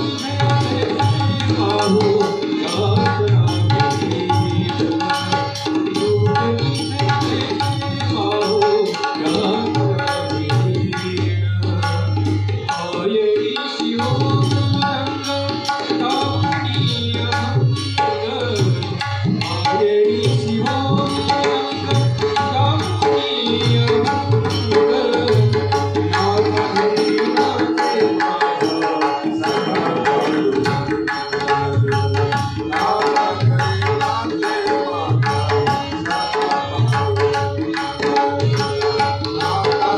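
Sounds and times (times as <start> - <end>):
fast hand drumming: 0.0 - 39.9.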